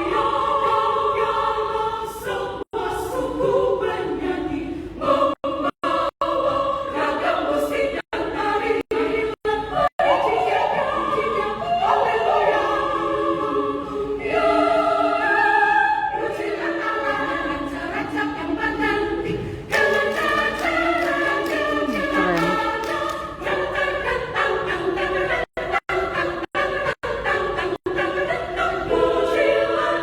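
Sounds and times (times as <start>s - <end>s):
women's choir singing: 0.0s - 30.0s.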